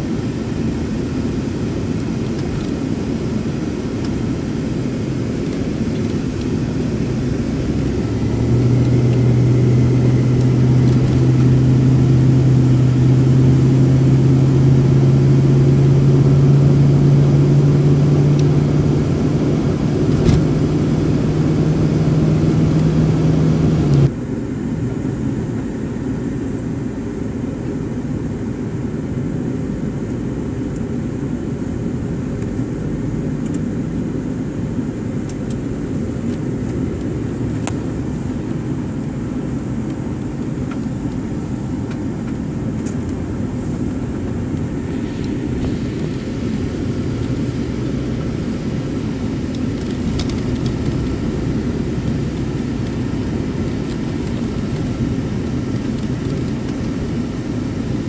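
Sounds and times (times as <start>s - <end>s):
car engine and tyre rumble: 0.0s - 58.0s
loud steady low hum: 0.0s - 58.0s.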